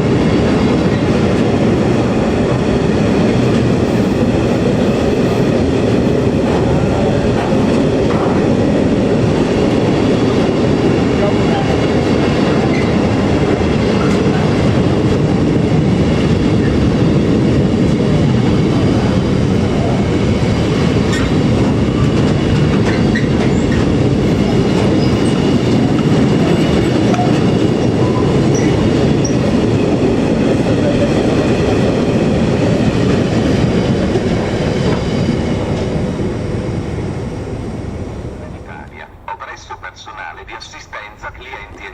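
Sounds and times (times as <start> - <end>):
train wheels rumbling on track: 0.0 - 41.9.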